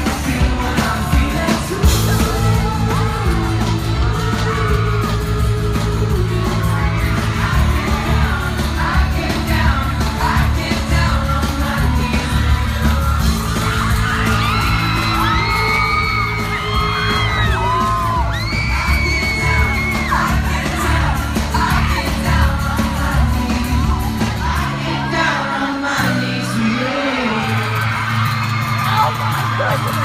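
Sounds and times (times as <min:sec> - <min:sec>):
fans screaming and cheering: 0:00.0 - 0:30.0
live pop band playing: 0:00.0 - 0:30.0.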